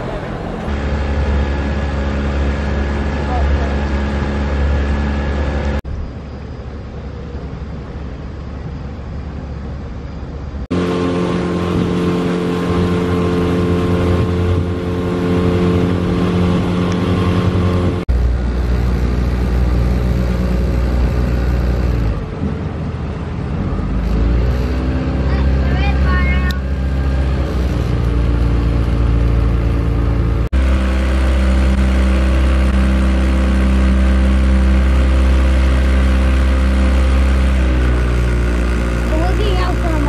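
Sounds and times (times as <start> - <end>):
motorboat engine running: 0.0 - 40.0
rumble of wind and water: 0.0 - 40.0.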